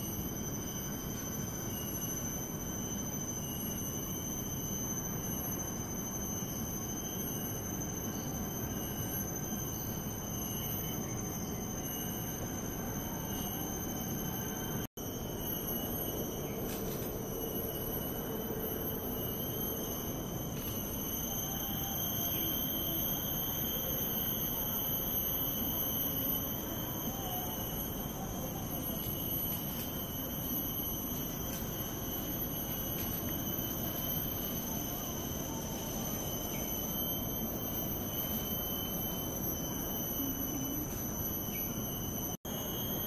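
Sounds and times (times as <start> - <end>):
insects shrilling: 0.0 - 43.0.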